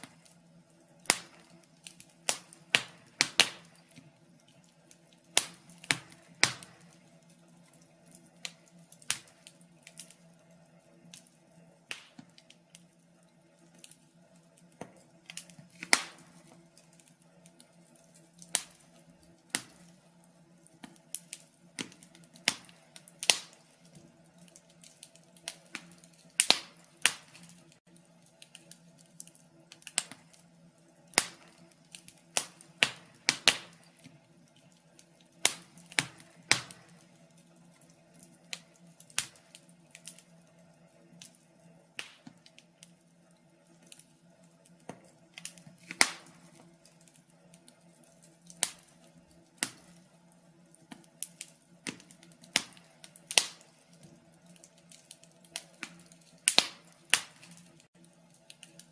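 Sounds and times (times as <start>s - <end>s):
fire crackling and popping: 0.0s - 58.9s.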